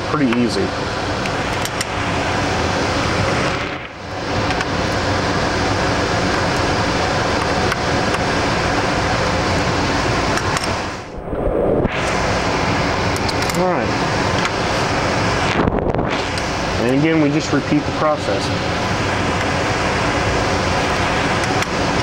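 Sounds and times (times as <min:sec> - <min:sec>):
fan rushing: 0:00.0 - 0:22.0.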